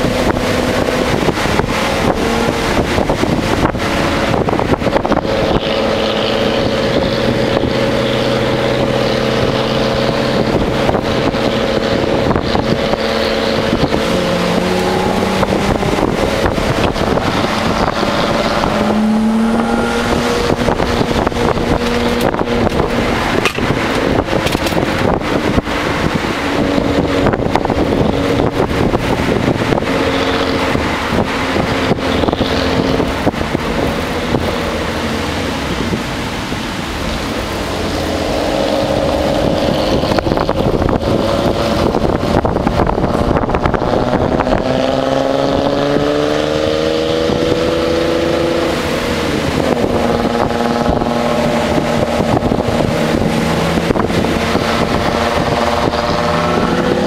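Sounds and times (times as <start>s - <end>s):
car engine from inside cabin: 0.0s - 57.0s
road and wind noise: 0.0s - 57.0s.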